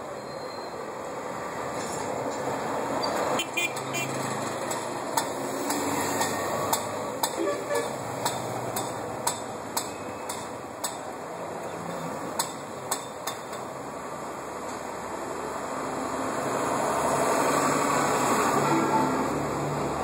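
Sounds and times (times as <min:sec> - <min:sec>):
road traffic: 0:00.0 - 0:20.0
auto-rickshaw engine: 0:00.1 - 0:20.0.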